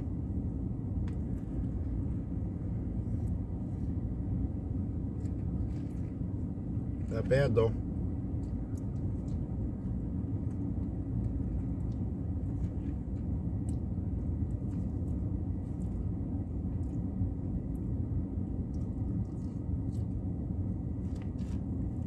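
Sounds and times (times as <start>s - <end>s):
low rumble inside car cabin: 0.0s - 22.0s.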